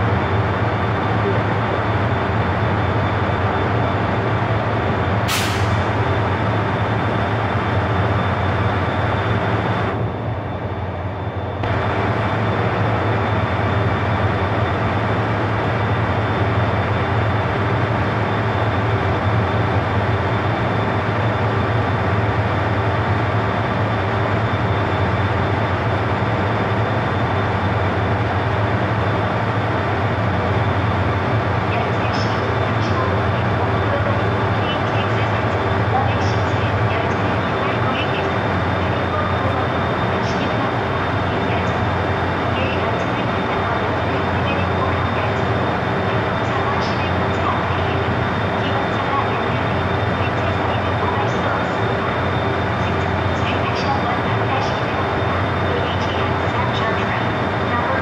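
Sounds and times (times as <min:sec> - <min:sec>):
train equipment humming: 0:00.0 - 0:58.0.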